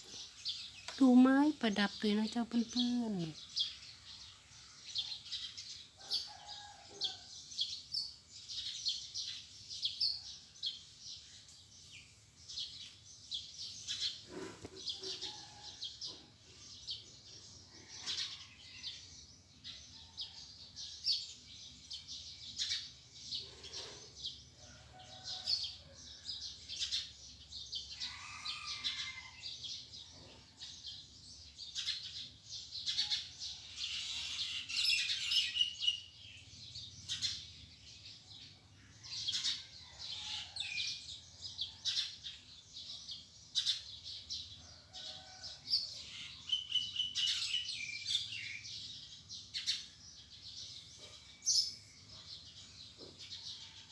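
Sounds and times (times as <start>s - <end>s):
small birds chirping and singing: 0.0s - 53.9s.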